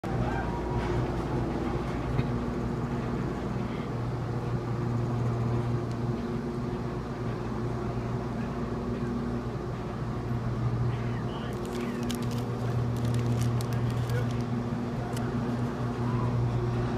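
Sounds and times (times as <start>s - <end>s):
lift machinery hum: 0.0s - 16.9s.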